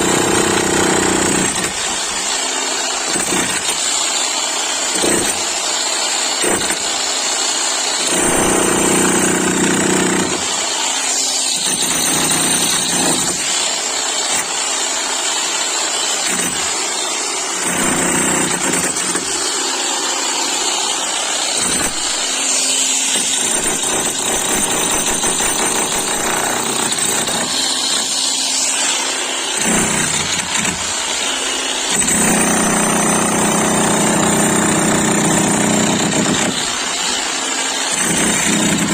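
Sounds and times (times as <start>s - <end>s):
demolition hammer running: 0.0s - 38.9s.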